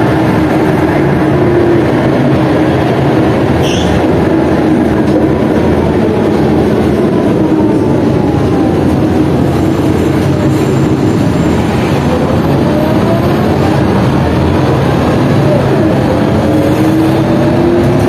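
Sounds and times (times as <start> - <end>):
bus diesel engine drone: 0.0 - 18.0
road rumble: 0.0 - 18.0.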